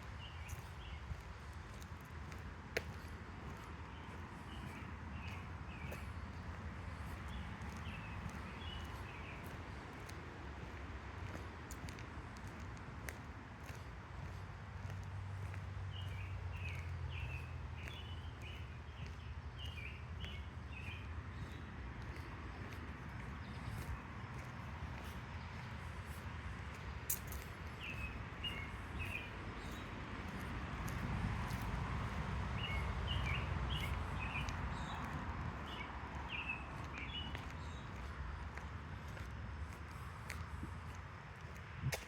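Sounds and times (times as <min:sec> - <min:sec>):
songbird chirping: 0:00.0 - 0:12.0, 0:13.7 - 0:42.0.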